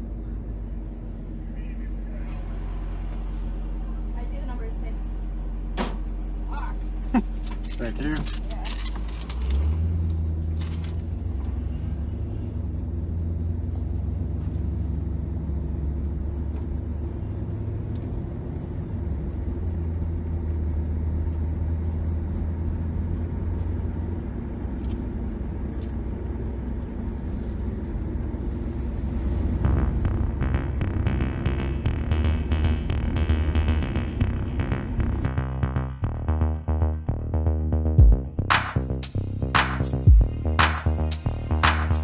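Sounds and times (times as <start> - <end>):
car engine low drone from inside: 0.0 - 42.0.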